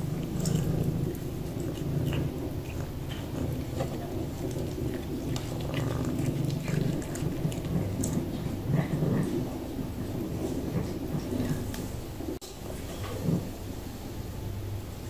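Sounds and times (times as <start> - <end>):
cat chewing crunchy food: 0.0 - 12.3
cat purring: 0.0 - 12.4.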